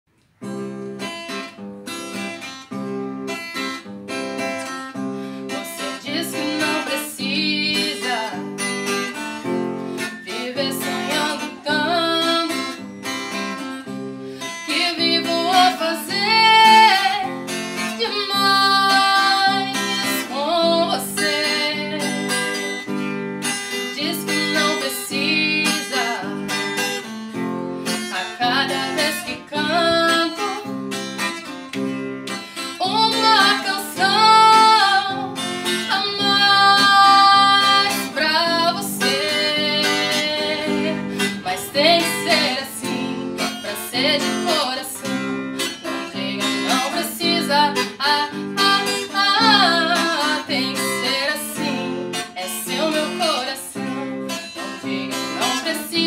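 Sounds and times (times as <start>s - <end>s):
acoustic guitar strumming: 0.3s - 56.0s
woman singing: 4.4s - 31.3s, 32.3s - 56.0s.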